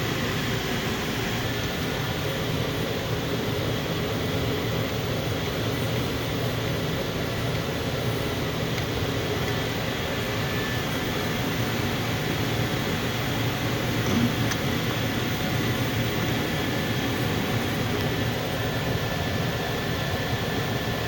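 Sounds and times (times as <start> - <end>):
furnace fan hum and air rush: 0.0 - 21.0.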